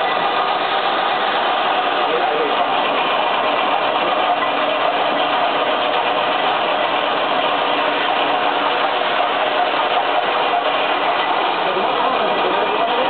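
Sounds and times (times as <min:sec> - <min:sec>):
paper shredder running: 0:00.0 - 0:13.0.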